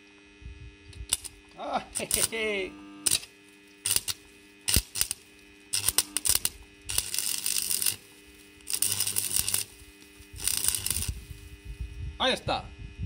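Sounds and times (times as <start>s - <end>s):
arc welding crackling: 0.0s - 12.4s
steady hum: 0.0s - 13.0s.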